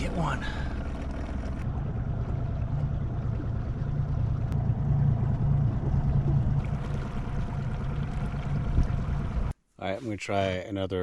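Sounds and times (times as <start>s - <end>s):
outboard motor running: 0.0s - 9.5s.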